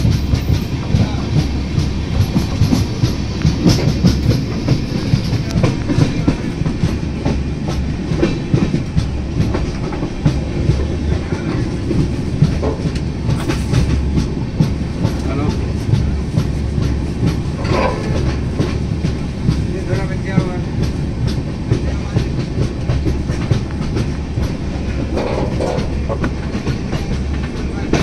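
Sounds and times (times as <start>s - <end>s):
train low rumble: 0.0s - 28.0s
train wheels clacking: 0.0s - 28.0s.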